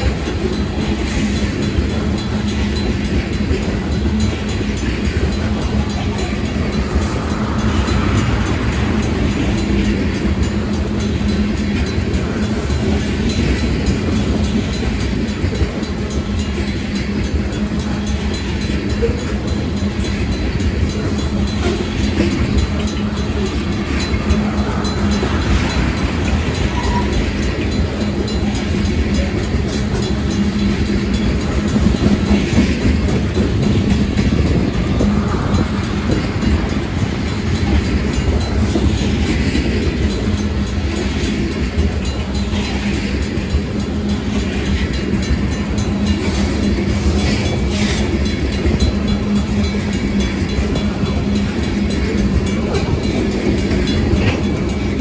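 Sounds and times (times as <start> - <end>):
freight train rolling past: 0.0 - 55.0
wheels rattling on track: 0.0 - 55.0.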